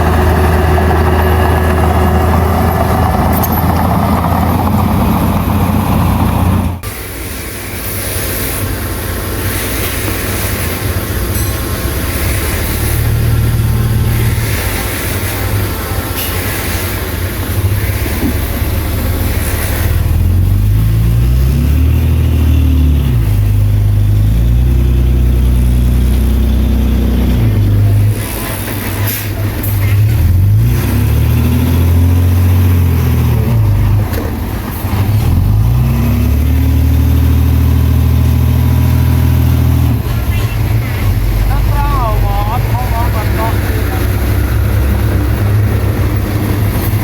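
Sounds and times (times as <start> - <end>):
heavy diesel engine revving: 0.0 - 47.0.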